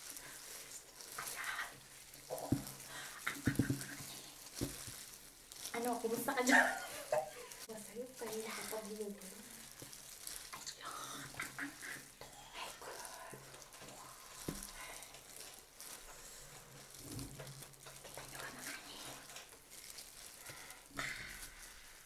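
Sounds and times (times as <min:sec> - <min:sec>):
noodles slurped and chewed: 0:00.0 - 0:22.0.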